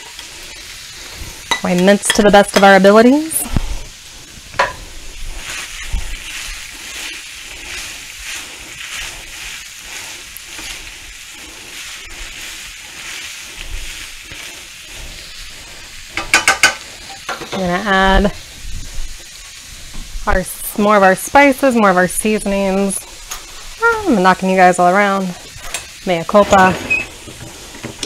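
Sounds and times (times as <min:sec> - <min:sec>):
food sizzling lightly: 0:00.0 - 0:28.0
spatula stirring in a skillet: 0:00.0 - 0:28.0.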